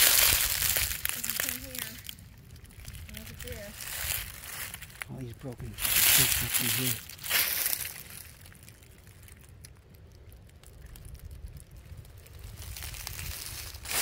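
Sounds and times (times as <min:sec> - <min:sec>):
footsteps crunching dry leaves: 0:00.0 - 0:09.5, 0:11.9 - 0:14.0
low rumble: 0:00.0 - 0:14.0.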